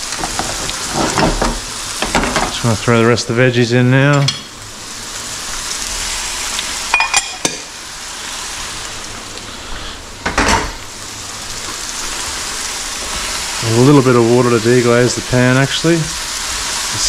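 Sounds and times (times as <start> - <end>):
oil sizzling in frying pans: 0.0 - 17.0.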